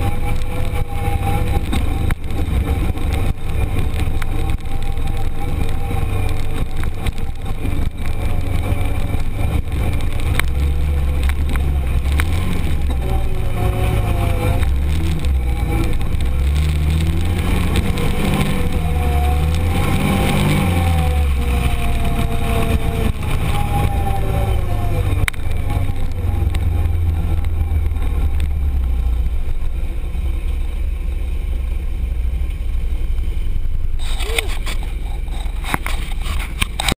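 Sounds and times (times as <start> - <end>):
engine revving and droning: 0.0 - 36.9.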